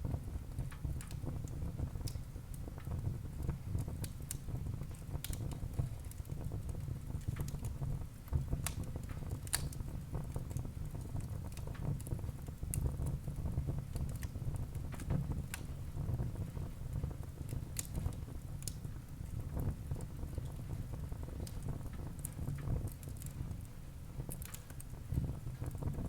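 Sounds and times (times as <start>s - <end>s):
burning logs crackling and popping: 0.0s - 26.0s
flames rumbling: 0.0s - 26.0s.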